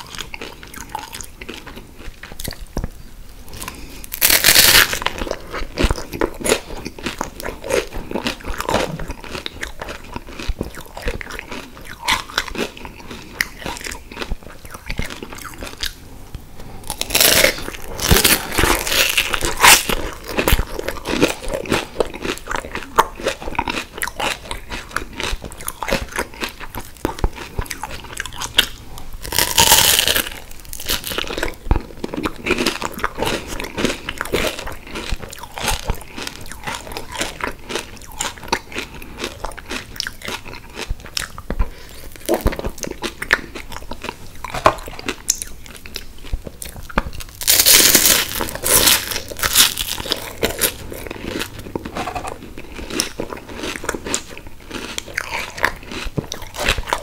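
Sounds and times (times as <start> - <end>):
chewing and crunching wafer cone: 0.0 - 57.0.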